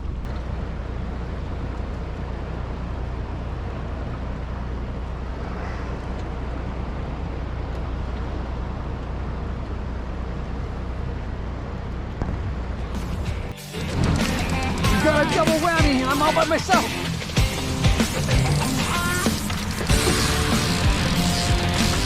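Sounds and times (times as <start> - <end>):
outboard motor drone: 0.0 - 22.0.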